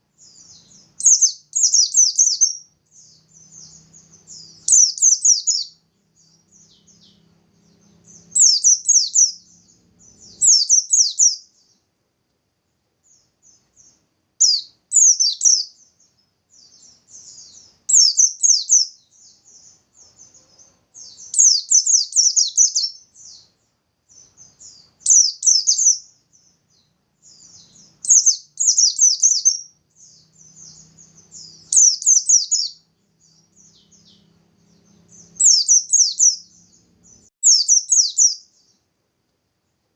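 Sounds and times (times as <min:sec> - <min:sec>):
soft bird twittering: 0:00.0 - 0:11.9, 0:13.0 - 0:38.9
bird song phrases: 0:00.0 - 0:39.0.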